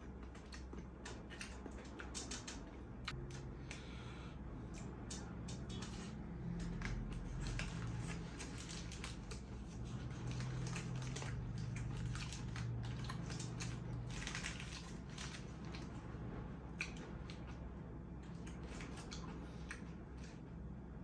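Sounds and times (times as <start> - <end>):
low steady hum: 0.0 - 21.0
chewing: 0.1 - 4.0, 4.7 - 16.1, 16.7 - 17.6, 18.2 - 20.4.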